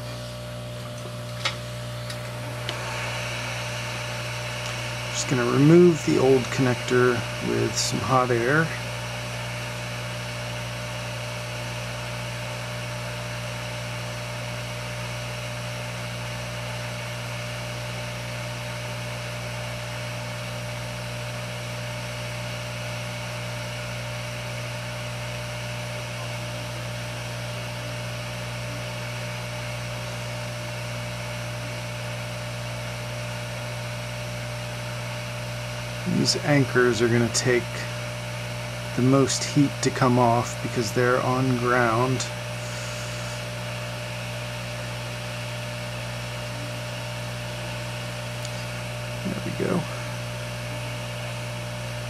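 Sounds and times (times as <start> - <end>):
hot air station blowing: 0.0 - 52.0.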